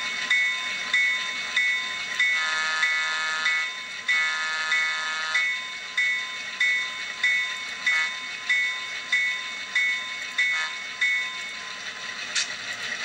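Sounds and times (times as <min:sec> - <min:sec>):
model locomotive bell ringing: 0:00.0 - 0:12.2.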